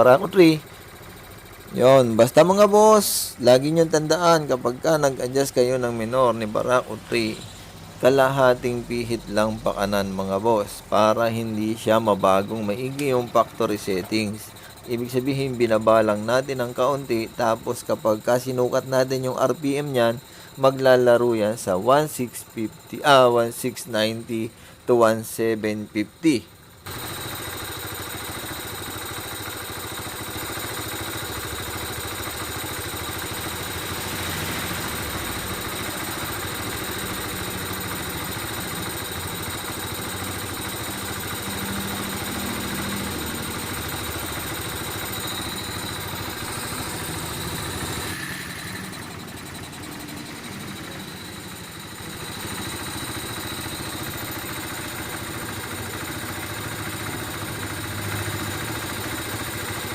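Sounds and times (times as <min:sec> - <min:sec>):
motorcycle engine idling: 0:00.0 - 0:20.6, 0:25.8 - 0:59.9.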